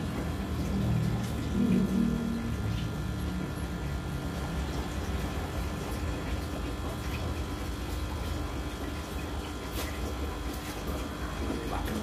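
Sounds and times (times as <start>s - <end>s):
aquarium equipment hum: 0.0s - 12.0s.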